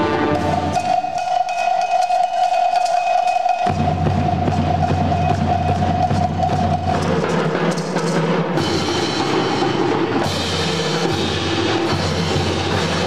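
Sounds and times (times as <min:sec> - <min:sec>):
band playing held chords: 0:00.0 - 0:13.0.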